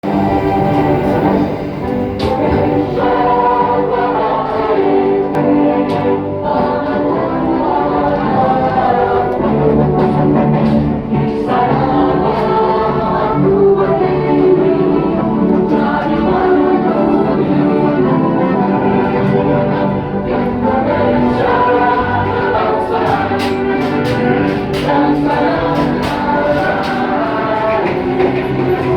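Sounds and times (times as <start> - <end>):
group singing in chorus: 0.0 - 28.9.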